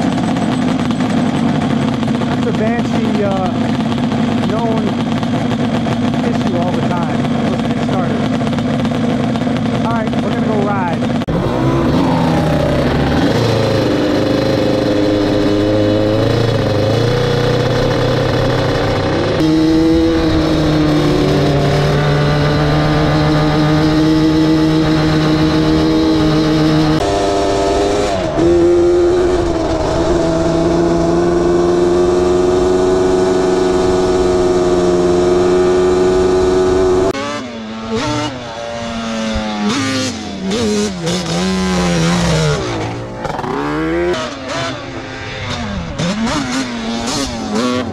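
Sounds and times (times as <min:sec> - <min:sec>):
quad engines revving: 0:00.0 - 0:47.9.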